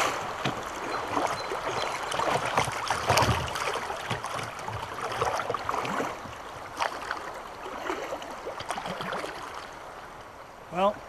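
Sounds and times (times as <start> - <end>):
river water gurgling and splashing: 0.0 - 11.0.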